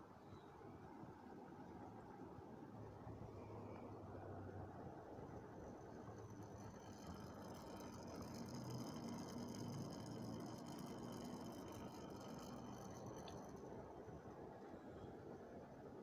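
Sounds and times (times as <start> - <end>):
aquarium equipment humming: 2.0 - 16.0
faint high whines: 2.8 - 16.0.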